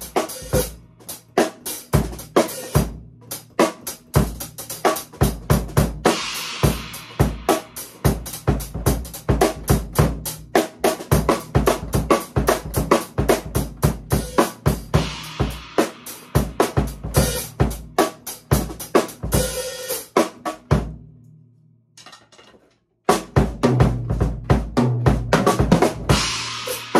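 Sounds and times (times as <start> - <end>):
drum kit playing a busy beat: 0.0 - 21.0, 23.1 - 26.9.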